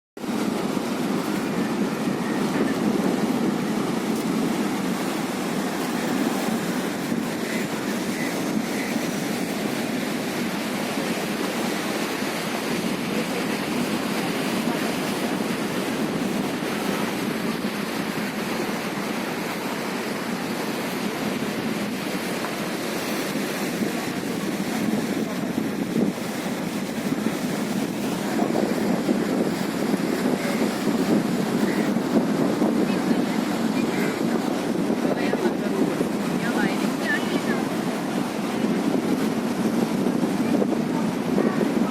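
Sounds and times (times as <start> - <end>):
sea surf washing in: 0.2 - 41.9
wind noise on microphone: 0.2 - 41.9.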